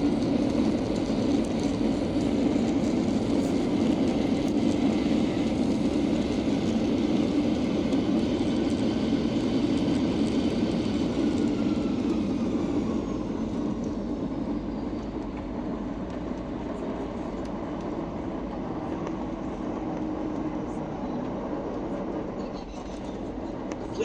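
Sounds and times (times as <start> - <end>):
airliner engines reverse thrust: 0.0 - 24.0.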